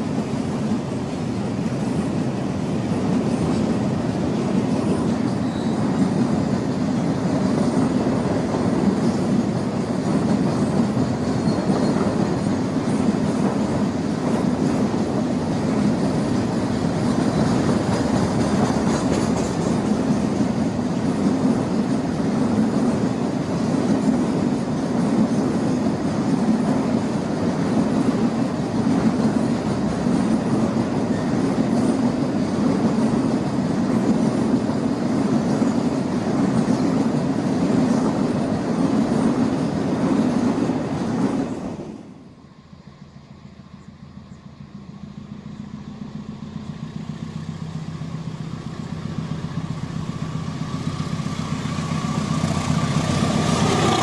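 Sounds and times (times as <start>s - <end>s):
freight train wheels on track: 0.0s - 54.0s.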